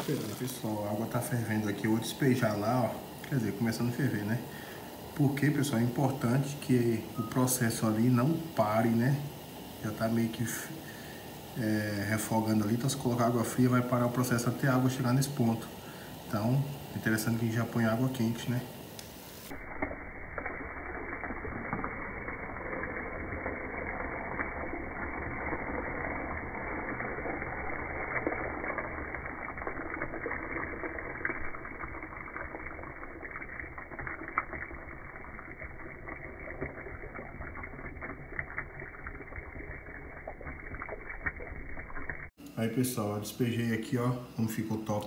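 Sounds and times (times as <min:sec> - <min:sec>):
water pouring and splashing: 0:00.0 - 0:42.4.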